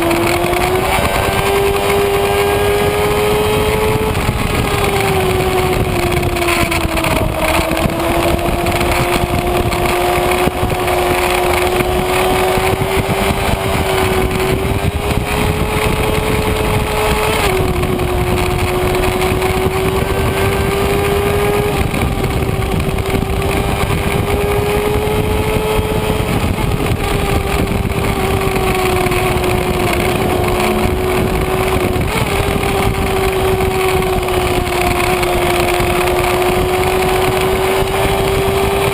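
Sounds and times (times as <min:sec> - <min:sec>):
heavy wind rush: 0:00.0 - 0:38.9
motorcycle engine at high revs: 0:00.0 - 0:38.9.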